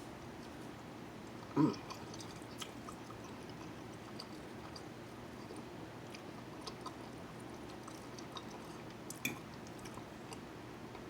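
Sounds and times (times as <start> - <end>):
faint background hum: 0.0 - 11.0
person chewing food: 0.3 - 10.5.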